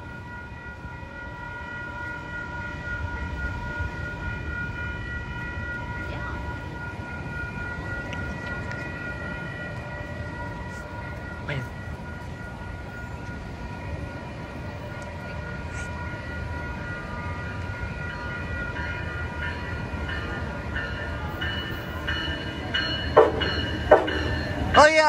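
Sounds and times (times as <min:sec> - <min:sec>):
train approaching rumble: 0:00.0 - 0:25.0
train bell ringing: 0:00.0 - 0:25.0.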